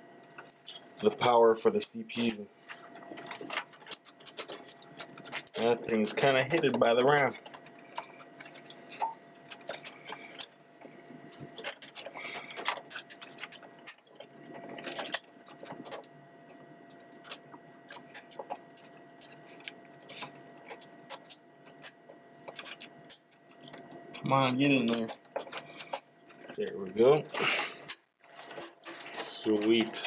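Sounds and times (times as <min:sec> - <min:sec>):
cables rustling: 0:00.0 - 0:30.0
wire clicking and scraping on metal: 0:01.8 - 0:30.0.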